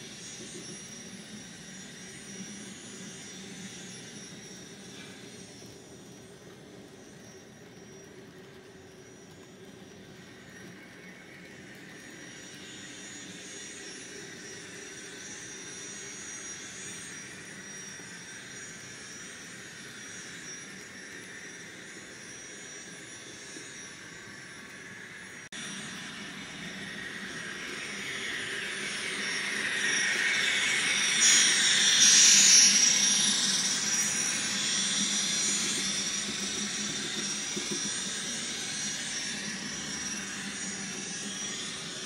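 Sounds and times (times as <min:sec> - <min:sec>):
turbine whine through small speaker: 0:00.0 - 0:42.0.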